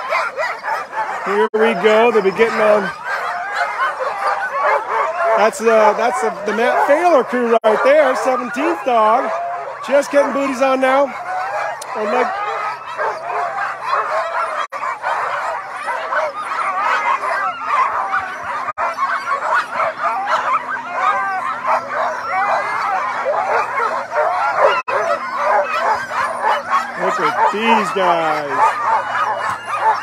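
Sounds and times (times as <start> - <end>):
dogs barking and yipping: 0.0 - 30.0.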